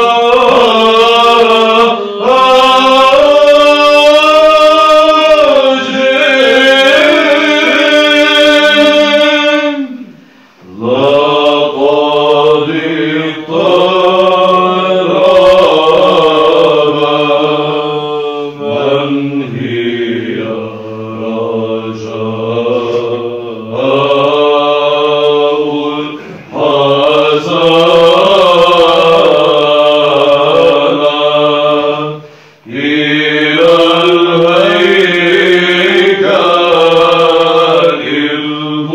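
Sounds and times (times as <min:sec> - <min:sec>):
male choir chanting a hymn: 0:00.0 - 0:38.9.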